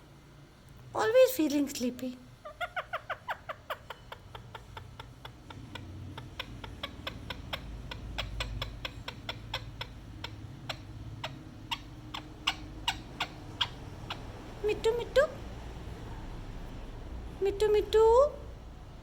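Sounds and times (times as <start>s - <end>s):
low steady hum: 0.0s - 19.0s
parakeet sharp calls: 2.4s - 18.5s.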